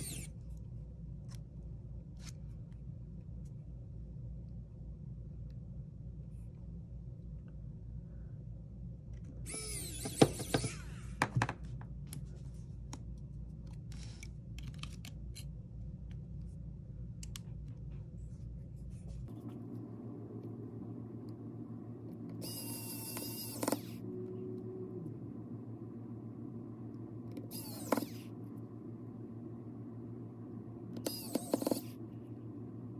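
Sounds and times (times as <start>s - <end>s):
low hum: 0.0s - 32.9s.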